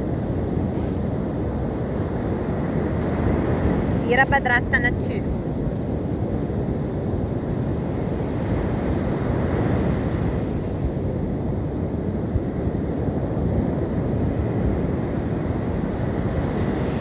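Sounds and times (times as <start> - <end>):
sea surf washing onto beach: 0.0 - 17.0
wind on microphone: 0.0 - 17.0.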